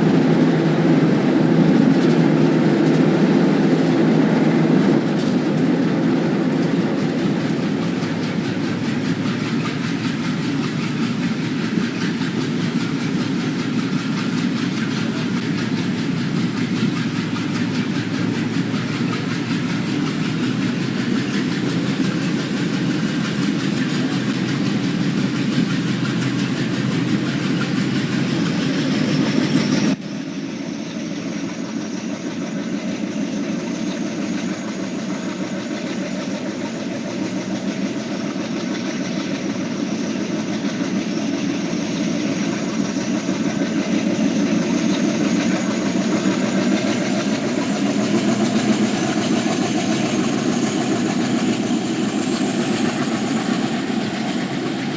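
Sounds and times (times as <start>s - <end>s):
diesel locomotive engine running: 0.0s - 54.9s.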